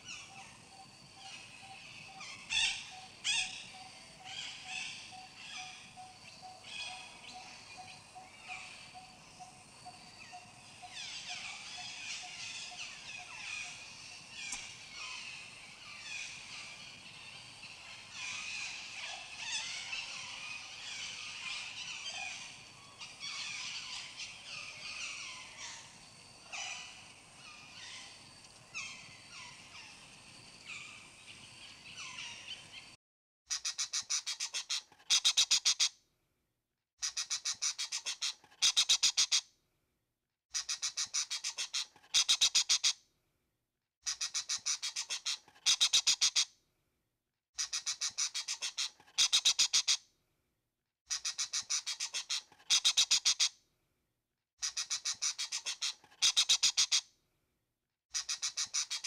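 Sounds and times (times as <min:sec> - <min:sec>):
wild birds chirping: 0:00.0 - 0:35.9, 0:37.0 - 0:39.4, 0:40.5 - 0:43.0, 0:44.0 - 0:46.5, 0:47.6 - 0:50.0, 0:51.1 - 0:53.6, 0:54.6 - 0:57.1, 0:58.1 - 0:59.0.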